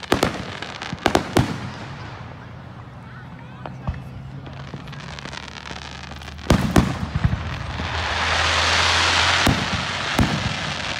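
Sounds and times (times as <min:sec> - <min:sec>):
fireworks bangs and pops: 0:00.0 - 0:02.4, 0:03.6 - 0:10.9.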